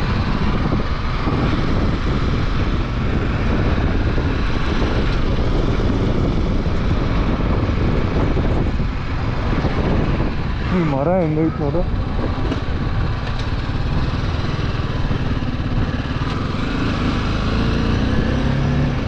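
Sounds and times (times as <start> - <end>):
motorcycle engine running: 0.0 - 19.0
road noise: 0.0 - 19.0
wind rush on microphone: 0.0 - 19.0.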